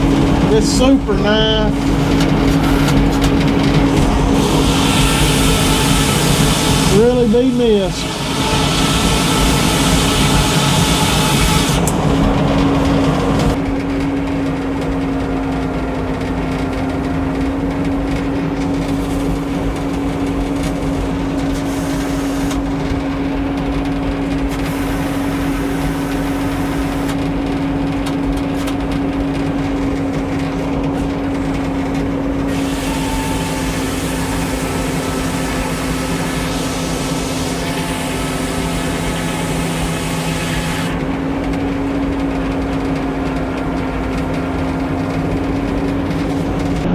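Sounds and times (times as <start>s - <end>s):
sawmill engine humming: 0.0s - 46.9s.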